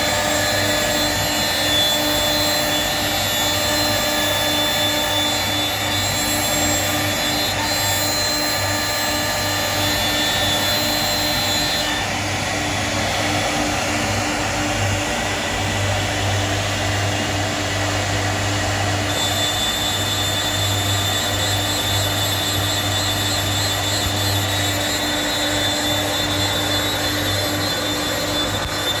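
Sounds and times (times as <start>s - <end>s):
cnc router cutting plastic: 0.0s - 29.0s.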